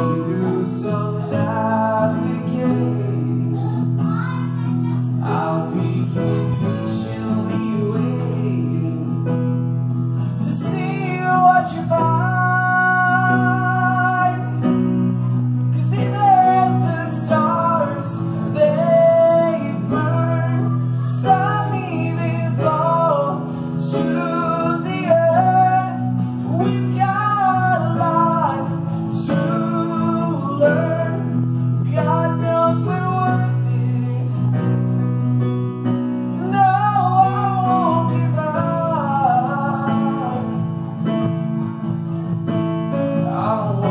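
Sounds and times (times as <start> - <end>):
man singing: 0.0 - 42.3, 42.9 - 43.9
electric keyboard chords: 0.0 - 43.9
strummed acoustic guitar: 0.0 - 43.9.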